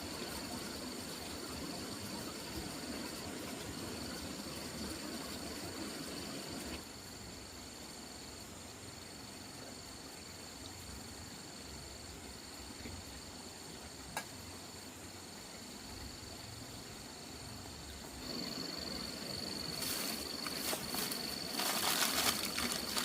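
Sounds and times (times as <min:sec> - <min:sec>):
insects chirring: 0:00.0 - 0:23.0
low background hiss: 0:00.0 - 0:23.0.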